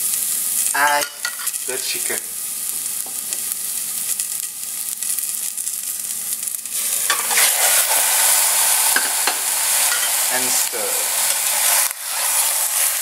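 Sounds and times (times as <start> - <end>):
oil sizzling in a pot: 0.0 - 13.0.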